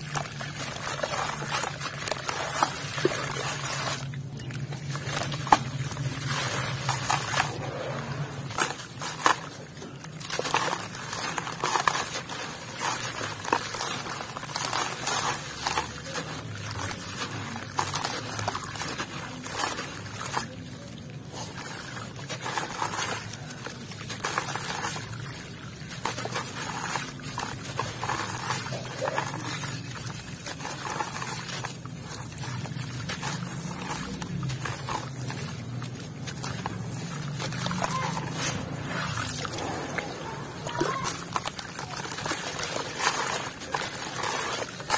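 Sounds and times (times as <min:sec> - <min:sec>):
grit splashing into water: 0:00.0 - 0:44.9
wet cement squeezed by hand: 0:00.0 - 0:44.9.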